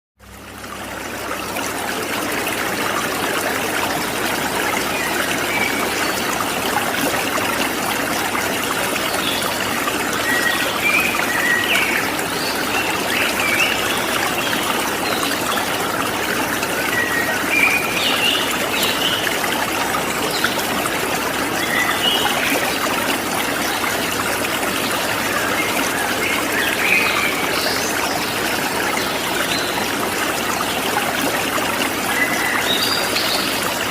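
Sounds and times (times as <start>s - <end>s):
running water rushing: 0.2s - 33.9s.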